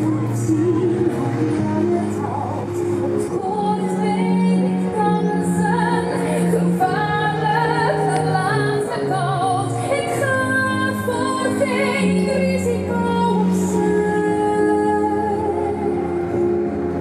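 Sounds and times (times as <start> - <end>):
woman singing: 0.0 - 17.0.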